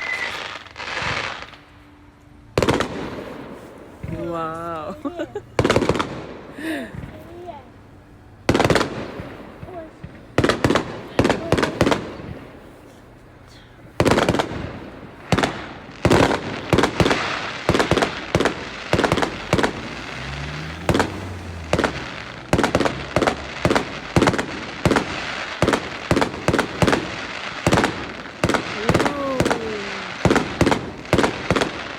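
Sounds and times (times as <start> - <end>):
fireworks bangs: 0.0 - 31.9
fireworks crackling: 0.0 - 31.9.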